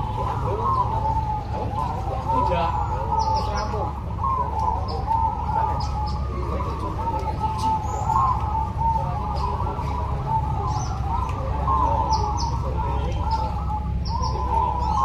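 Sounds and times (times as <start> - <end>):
doves cooing: 0.0 - 15.0
low background rumble: 0.0 - 15.0
small birds chirping: 0.0 - 15.0.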